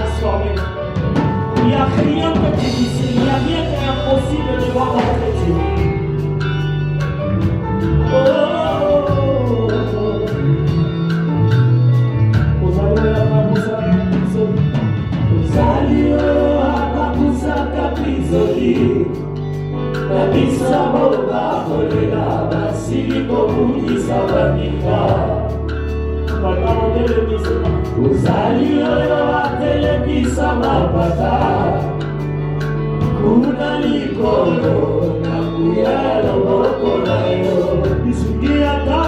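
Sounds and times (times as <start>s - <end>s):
voices singing: 0.0s - 6.6s, 12.6s - 39.0s
gospel band playing: 0.0s - 39.0s.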